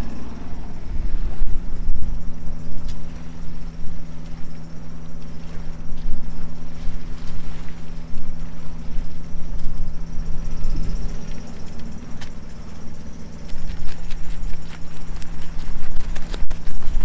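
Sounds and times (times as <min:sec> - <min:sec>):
boat engine humming: 0:00.0 - 0:17.0
wind rumble on microphone: 0:00.0 - 0:17.0.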